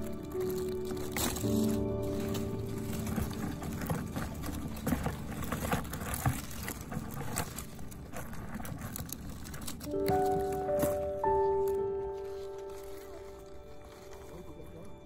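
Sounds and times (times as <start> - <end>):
plant leaves rustling: 0.0 - 15.0.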